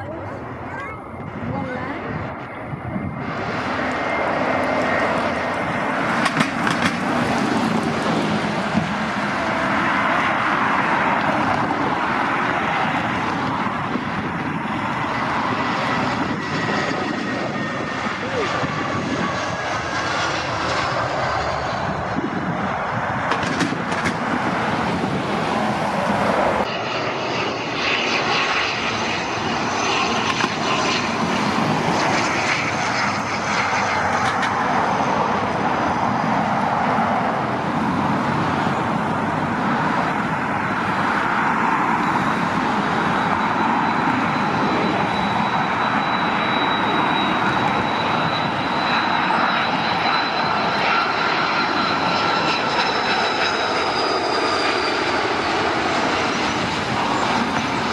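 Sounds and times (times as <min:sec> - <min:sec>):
airliner engine high whine: 0:00.0 - 0:57.9
jet engines roaring: 0:00.0 - 0:57.9
turboprop plane flying low: 0:00.0 - 0:57.9.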